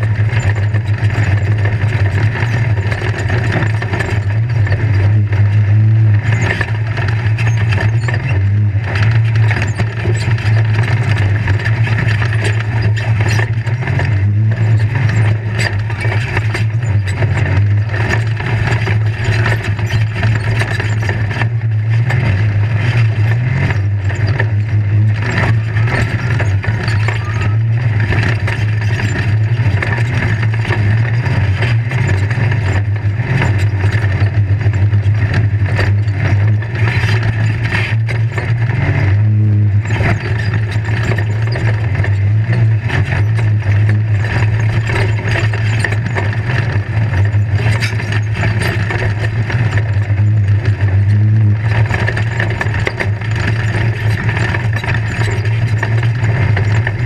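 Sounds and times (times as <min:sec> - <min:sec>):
chassis knocks and rattles: 0:00.0 - 0:57.0
race vehicle engine running hard: 0:00.0 - 0:57.0.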